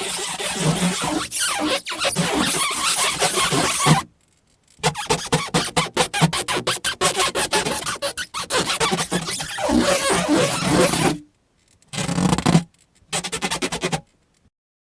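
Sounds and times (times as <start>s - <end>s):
dense scratchy rasping noise: 0.0s - 4.1s, 4.8s - 11.2s, 11.9s - 14.0s.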